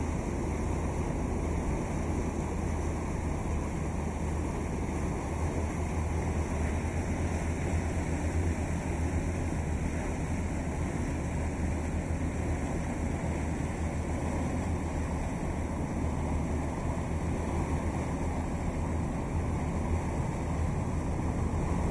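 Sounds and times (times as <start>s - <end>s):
boat engine drone: 0.0s - 21.9s
water noise: 0.0s - 21.9s
wind: 0.0s - 21.9s.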